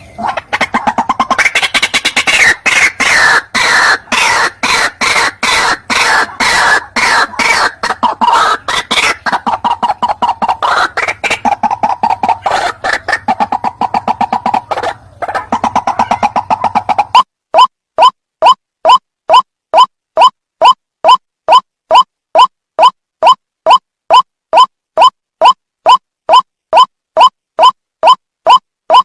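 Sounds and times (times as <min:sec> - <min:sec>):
bird harsh repeated calls: 0:00.0 - 0:29.0.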